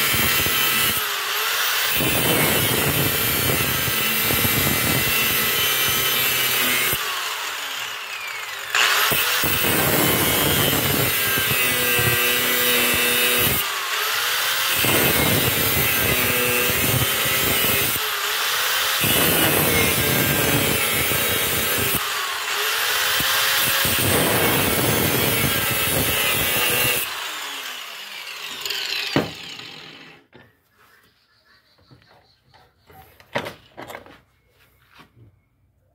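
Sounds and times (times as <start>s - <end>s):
angle grinder grinding steel: 0.0s - 30.3s.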